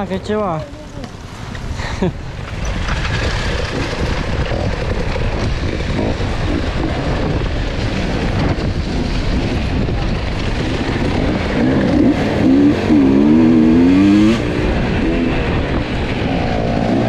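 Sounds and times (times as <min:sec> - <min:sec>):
dirt bike engine: 0:00.0 - 0:17.0
ground rumble: 0:00.0 - 0:17.0
wind: 0:00.0 - 0:17.0.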